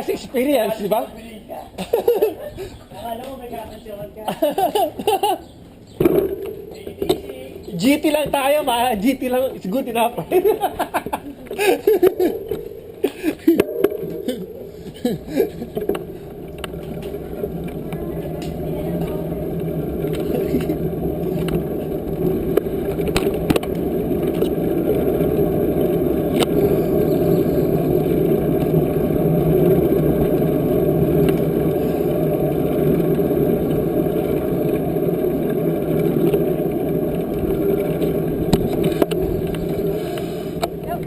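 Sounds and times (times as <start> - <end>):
bicycle rolling: 0.0 - 41.0.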